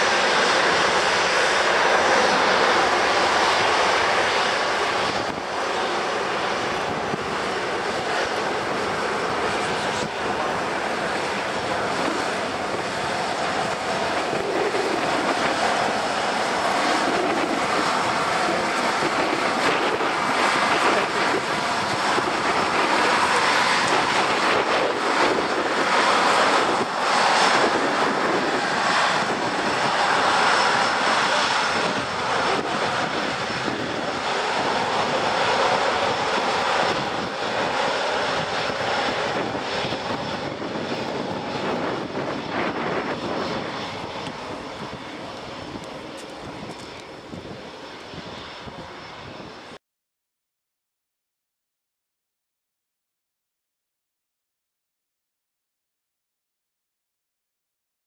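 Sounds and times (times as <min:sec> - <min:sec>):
jet engines roaring: 0:00.0 - 0:49.8.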